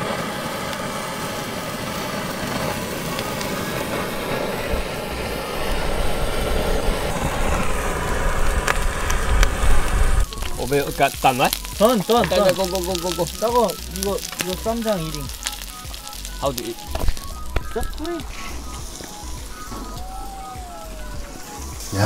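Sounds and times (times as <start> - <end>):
butane torch hissing: 0.0 - 22.0
meat frying in a pan: 0.0 - 22.0.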